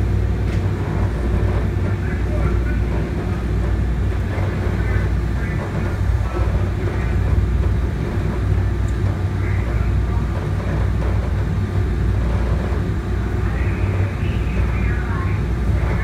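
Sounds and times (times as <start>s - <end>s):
light rail car rumbling: 0.0s - 16.0s.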